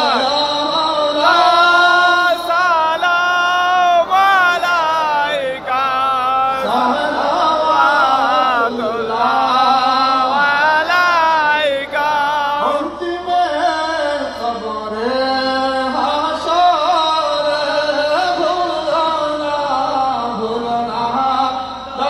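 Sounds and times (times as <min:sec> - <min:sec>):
men chanting through pa system: 0:00.0 - 0:22.0.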